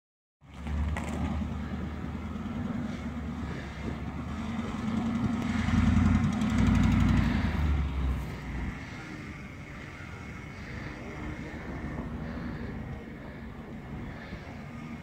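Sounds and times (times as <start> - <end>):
truck engine rumbling: 0.4 - 15.0.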